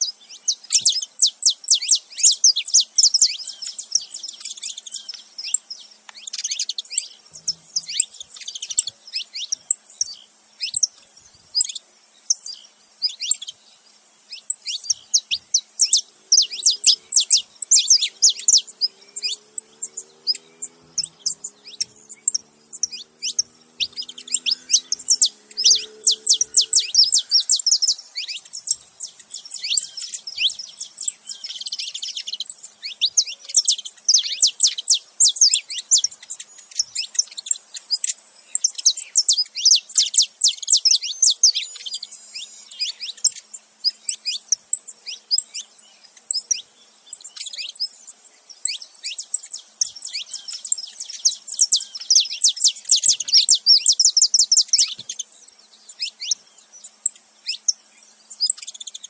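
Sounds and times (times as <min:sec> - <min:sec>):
finches chirping: 0:00.0 - 0:59.0.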